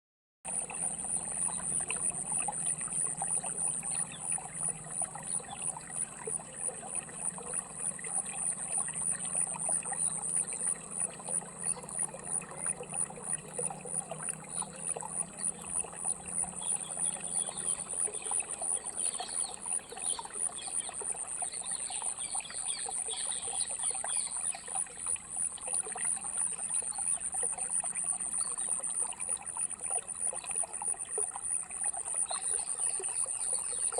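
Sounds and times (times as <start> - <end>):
stream trickling over stones: 0.5 - 33.9.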